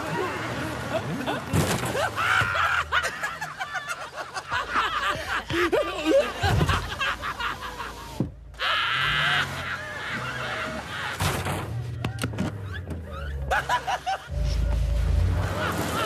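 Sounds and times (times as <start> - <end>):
people laughing: 0.0 - 16.0.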